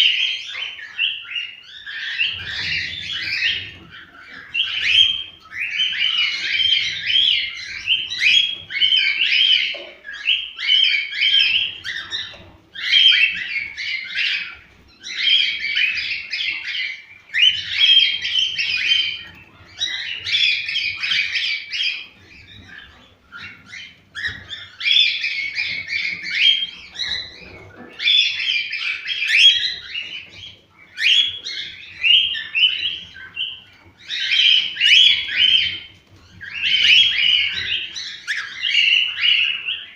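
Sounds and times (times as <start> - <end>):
cockatiels warbling chirps: 0.0 - 39.9.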